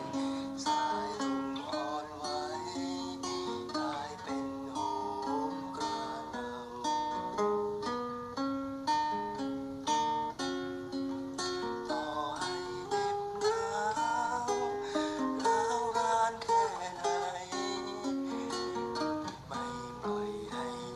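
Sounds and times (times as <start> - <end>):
plucked string instrument melody: 0.0 - 20.9.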